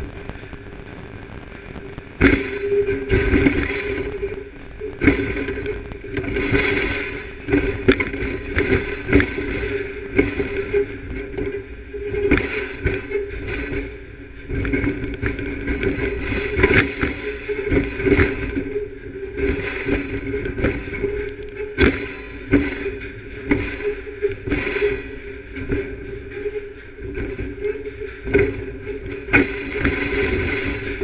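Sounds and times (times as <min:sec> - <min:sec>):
knocks and clicks: 0:00.0 - 0:31.0
machinery humming: 0:00.0 - 0:31.0.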